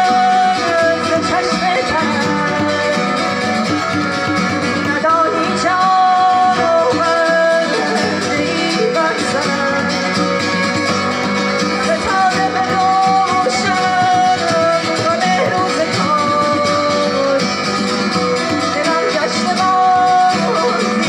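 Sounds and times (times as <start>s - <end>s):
djembe: 0.0s - 21.0s
person singing: 0.0s - 21.0s
strummed guitar: 0.0s - 21.0s
violin melody: 0.0s - 21.0s.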